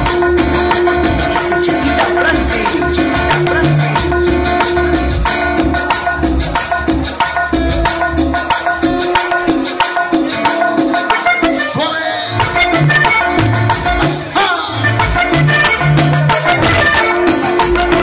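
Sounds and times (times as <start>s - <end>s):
latin dance music over sound system: 0.0s - 18.0s.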